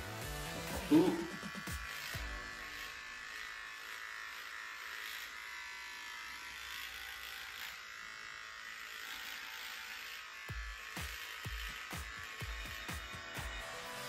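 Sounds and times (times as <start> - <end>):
electric beard trimmer buzzing: 0.0 - 14.0.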